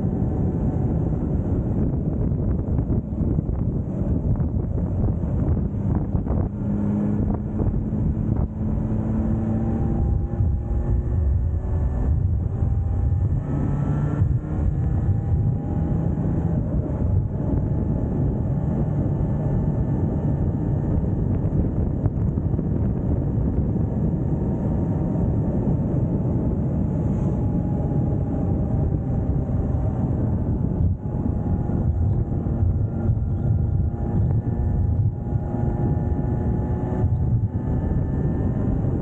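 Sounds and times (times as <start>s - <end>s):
motorbike engine cruising: 0.0s - 39.0s
wind rushing on microphone: 0.0s - 39.0s.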